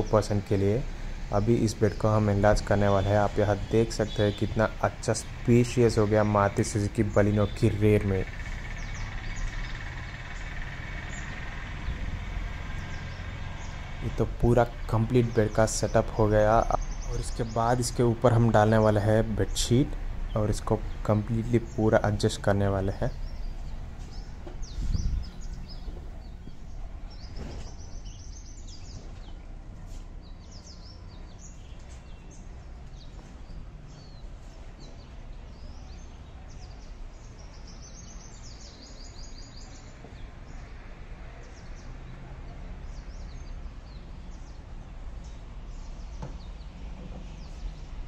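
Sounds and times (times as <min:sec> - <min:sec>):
steady low background noise: 0:00.0 - 0:46.8
birds chirping: 0:00.0 - 0:48.0.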